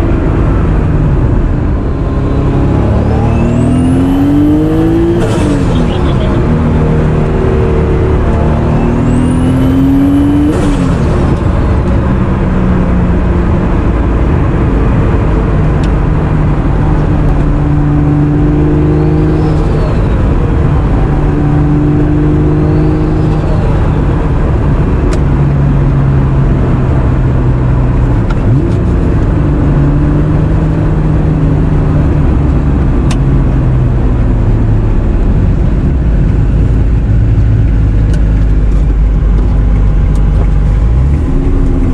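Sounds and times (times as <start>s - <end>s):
car engine revving: 0.0s - 41.9s
road noise: 0.0s - 41.9s.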